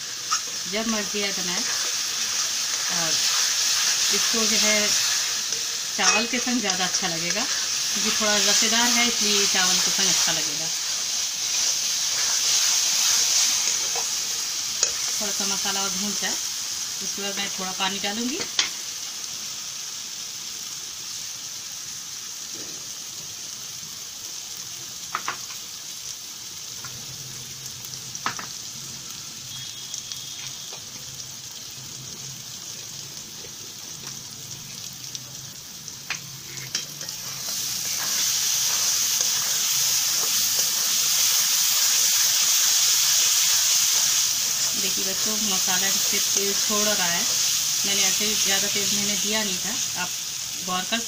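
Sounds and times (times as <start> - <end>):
paste sizzling in oil: 0.0 - 51.0.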